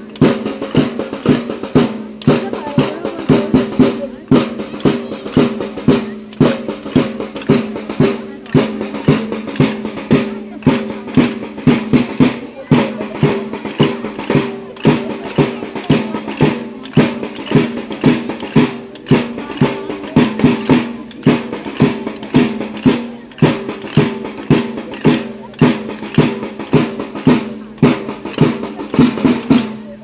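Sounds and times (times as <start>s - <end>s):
fast folk drum beat: 0.0s - 30.0s.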